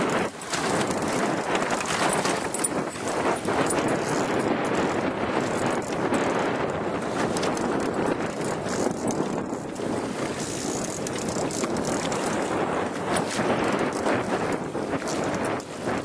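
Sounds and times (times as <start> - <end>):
boat motor: 0.0 - 16.0
rushing wind and water: 0.0 - 16.0
wind buffeting microphone: 0.0 - 16.0.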